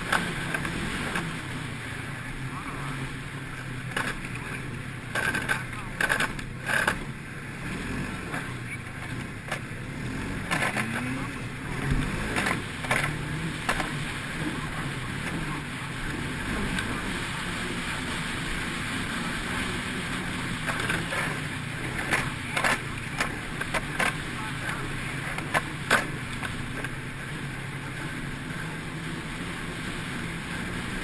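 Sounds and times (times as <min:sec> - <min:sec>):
snowmobile engine running: 0:00.0 - 0:31.0.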